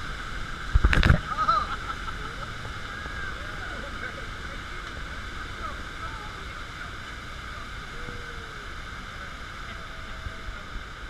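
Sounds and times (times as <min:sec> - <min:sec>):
rushing water: 0:00.0 - 0:11.0
wind: 0:00.0 - 0:11.0
speedboat motor roaring: 0:00.9 - 0:11.0.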